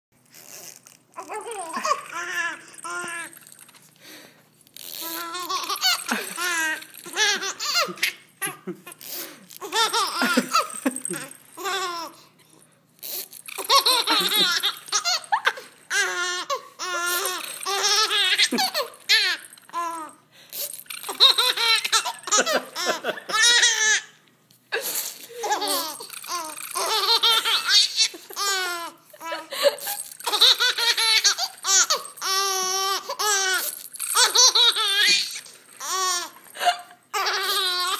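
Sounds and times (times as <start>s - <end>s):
baby laughing: 1.2s - 3.4s, 4.9s - 12.2s, 13.0s - 20.1s, 20.9s - 24.1s, 25.0s - 37.9s.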